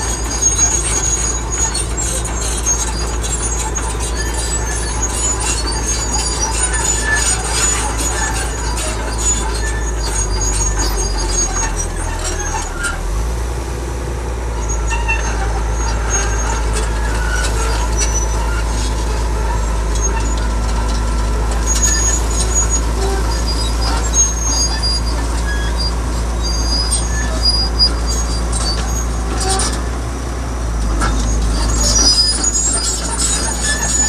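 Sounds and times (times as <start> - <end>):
short high squeaks and clinks: 0.0 - 13.0, 14.6 - 29.9, 30.8 - 34.0
earthmoving machinery engine drone: 0.0 - 34.0.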